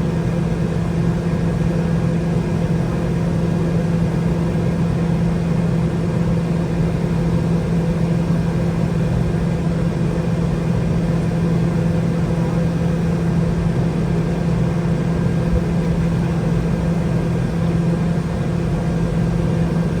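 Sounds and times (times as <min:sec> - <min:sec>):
jet engines droning in cabin: 0:00.0 - 0:20.0.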